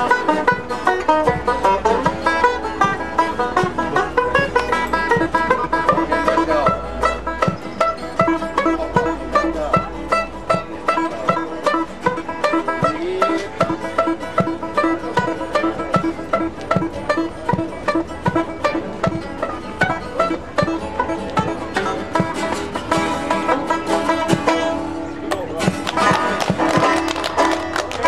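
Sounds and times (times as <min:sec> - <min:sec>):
plucked banjo: 0:00.0 - 0:28.0
strummed twelve-string guitar: 0:00.0 - 0:28.0.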